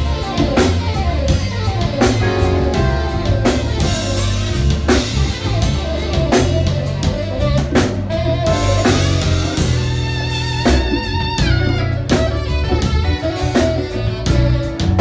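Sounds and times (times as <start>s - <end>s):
bass: 0.0s - 15.0s
drum kit beat: 0.0s - 15.0s
saxophone playing held notes: 0.0s - 15.0s.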